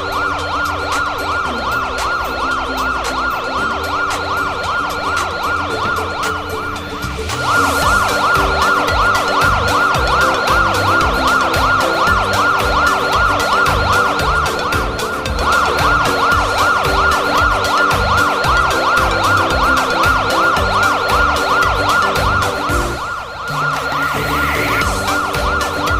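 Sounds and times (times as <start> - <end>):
emergency vehicle siren wailing: 0.0 - 25.9
music with steady beat: 0.0 - 25.9.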